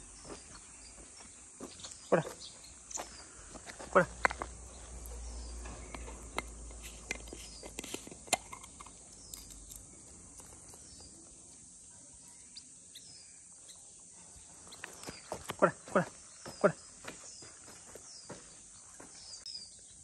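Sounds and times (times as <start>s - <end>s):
high insect drone: 0.0s - 20.0s
small birds chirping: 0.0s - 20.0s.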